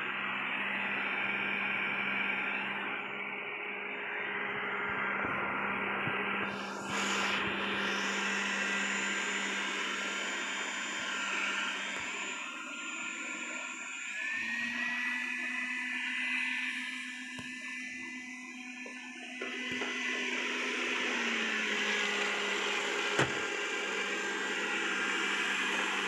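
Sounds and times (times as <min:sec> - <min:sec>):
robot vacuum cleaner whirring: 0:00.0 - 0:26.0.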